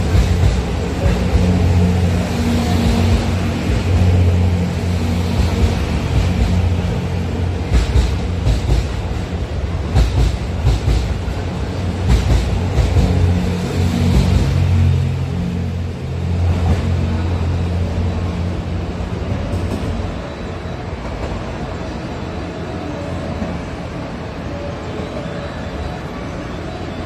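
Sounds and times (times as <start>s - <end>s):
train rolling past humming: 0.0s - 27.0s.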